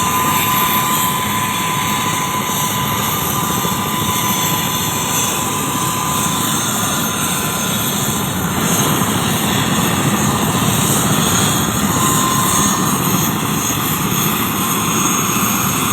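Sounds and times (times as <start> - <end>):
faint high whine: 0.0 - 15.9
helicopter turbine and rotor: 0.0 - 15.9.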